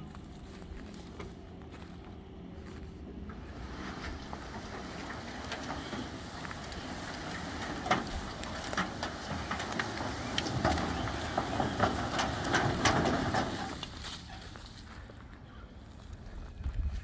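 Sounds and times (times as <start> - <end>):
branches rustling: 0.0 - 16.3.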